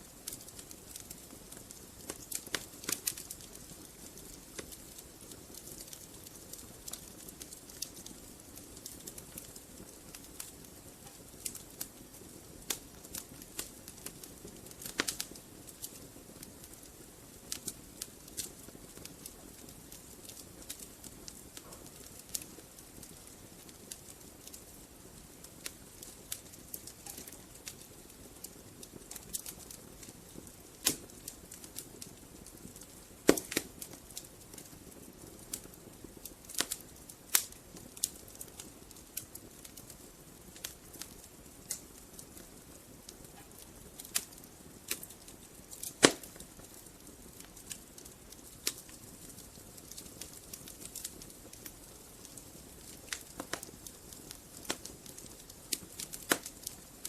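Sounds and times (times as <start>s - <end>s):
wood fire hissing and crackling: 0.0s - 57.0s.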